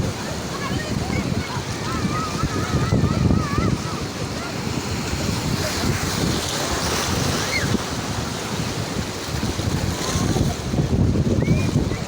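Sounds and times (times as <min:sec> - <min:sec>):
sea waves washing ashore: 0:00.0 - 0:12.0
wind buffeting microphone: 0:00.0 - 0:12.0.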